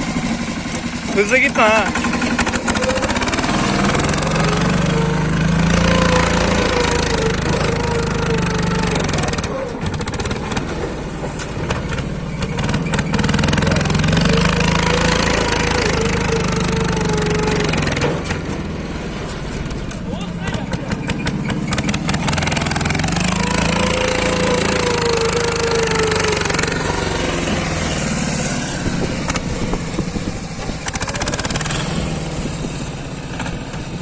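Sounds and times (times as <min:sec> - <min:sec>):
diesel tractor engine straining: 0:00.0 - 0:34.0.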